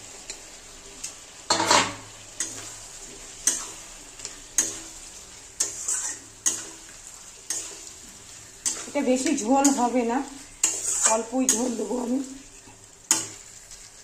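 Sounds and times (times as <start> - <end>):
food sizzling in pan: 0.0 - 14.0
spatula scraping metal pan: 1.5 - 13.5.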